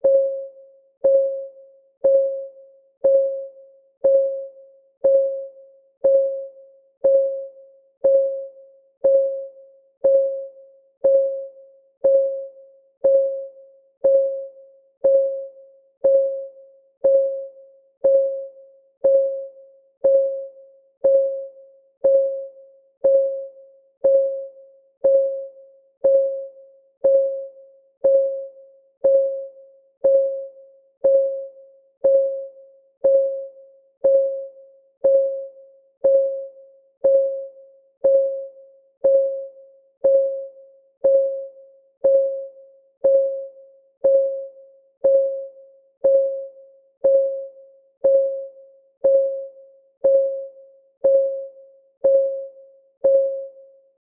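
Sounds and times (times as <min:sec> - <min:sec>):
countdown timer ticking: 0:01.0 - 0:01.4, 0:02.0 - 0:53.6.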